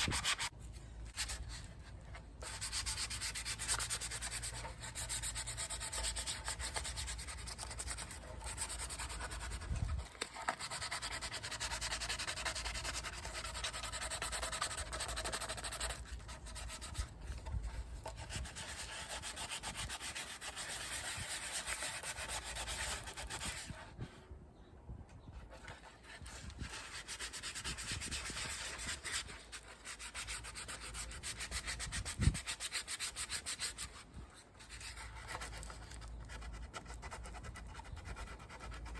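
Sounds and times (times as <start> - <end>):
sanding plastic: 0.0 - 0.5, 1.1 - 23.9, 25.6 - 38.9.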